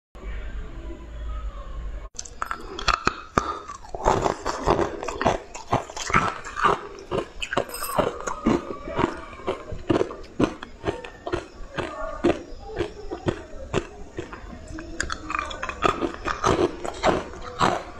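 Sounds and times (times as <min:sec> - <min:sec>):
crunching frozen ice: 0:02.2 - 0:17.9.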